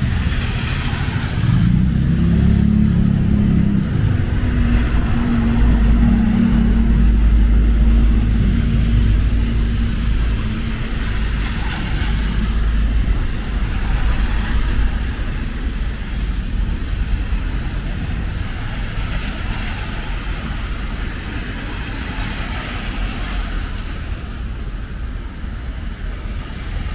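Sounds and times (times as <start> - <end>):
traffic hiss on wet street: 0.0 - 26.9
vehicle engine running: 0.0 - 26.9.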